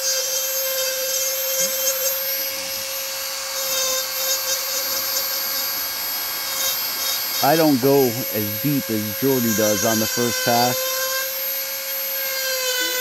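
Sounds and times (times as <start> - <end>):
rotary tool grinding wood: 0.0 - 5.7, 6.3 - 11.3.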